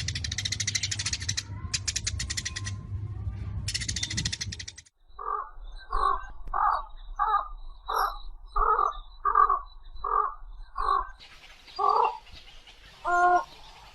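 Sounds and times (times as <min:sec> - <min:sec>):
bird calling: 0:00.0 - 0:02.8, 0:03.7 - 0:13.9.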